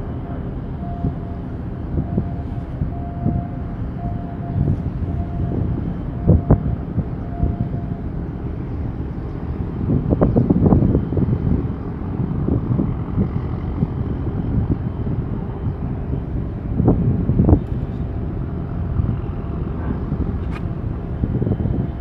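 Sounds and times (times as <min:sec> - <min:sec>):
choppy water: 0:00.0 - 0:22.0
gusty wind noise: 0:00.0 - 0:22.0
low rumble: 0:00.0 - 0:22.0.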